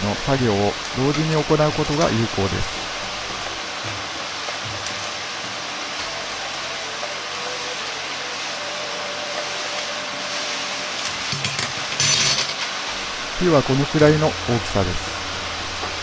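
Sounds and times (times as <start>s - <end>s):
gas range and ventilation hiss: 0.0s - 16.0s.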